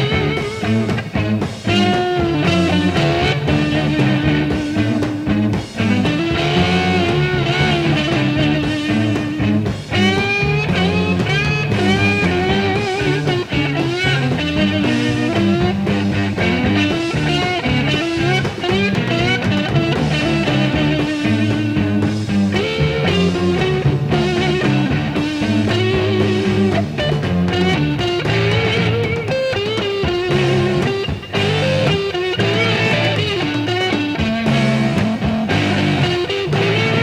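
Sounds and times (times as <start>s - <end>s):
drums: 0.0s - 37.0s
electric guitar solo: 0.0s - 37.0s
repeating bass riff: 0.0s - 37.0s.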